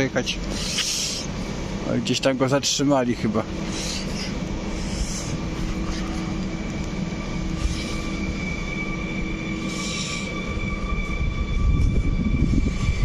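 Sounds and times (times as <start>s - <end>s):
electric train rolling past: 0.0s - 13.0s.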